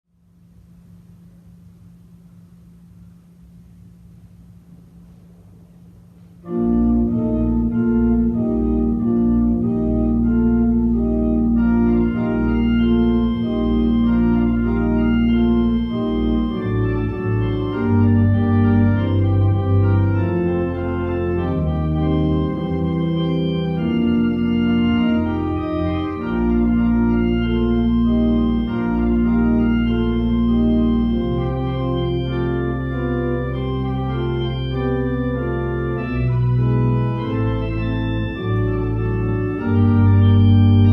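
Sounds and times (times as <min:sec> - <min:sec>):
church organ playing: 0:00.4 - 0:40.9.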